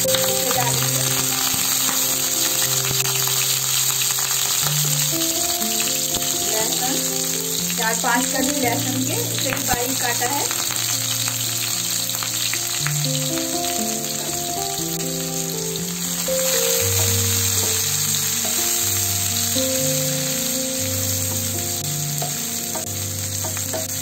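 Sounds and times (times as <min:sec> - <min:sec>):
background music with held notes: 0:00.0 - 0:24.0
onion and garlic sizzling in oil: 0:00.0 - 0:24.0.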